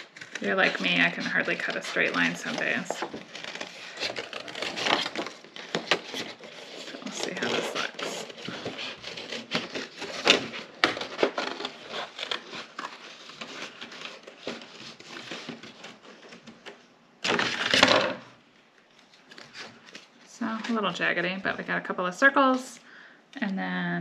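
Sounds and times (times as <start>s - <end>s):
paper rustling: 0.0s - 21.9s.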